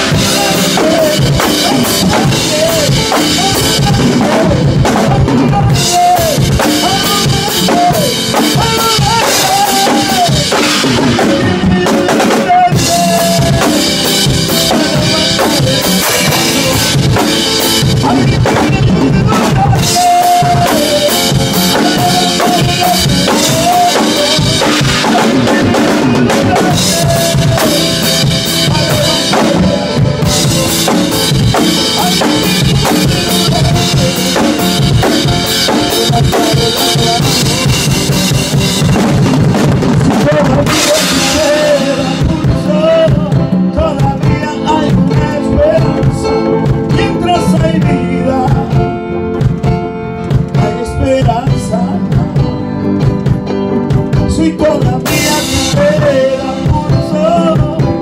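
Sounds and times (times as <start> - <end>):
drum kit playing rhythm: 0.0 - 58.0.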